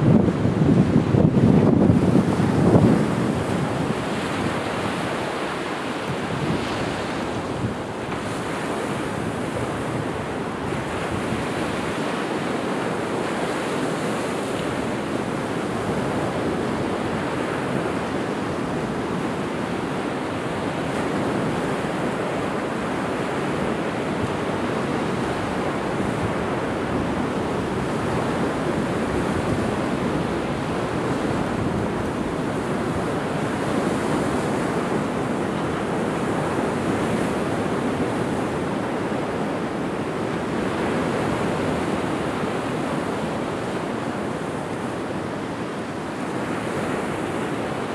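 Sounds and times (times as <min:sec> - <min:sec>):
ocean surf breaking: 0:00.0 - 0:47.9.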